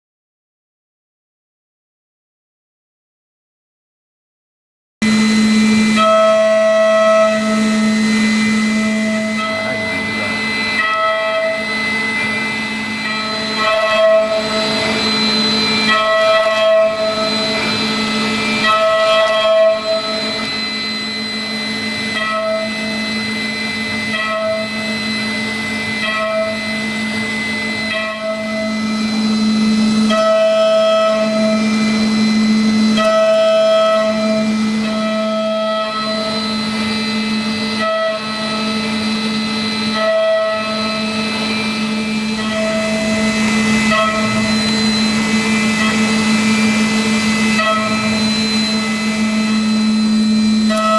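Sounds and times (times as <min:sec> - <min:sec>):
metal cutting tones: 0:05.0 - 0:50.9
milling machine spindle whine: 0:05.0 - 0:50.9.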